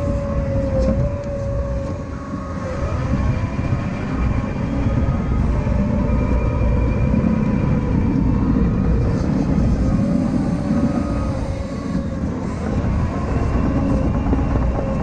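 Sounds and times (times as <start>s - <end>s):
diesel engine low rumble: 0.0s - 15.0s
faint whining tones: 0.0s - 15.0s.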